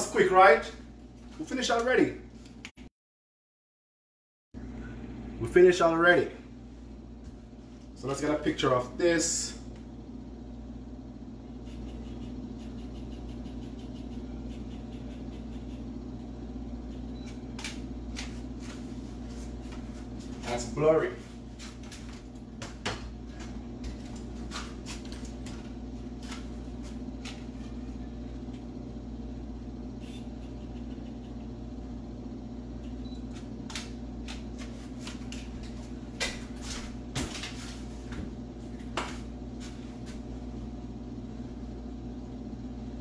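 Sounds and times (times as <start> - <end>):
steady low hum: 4.6 - 43.0.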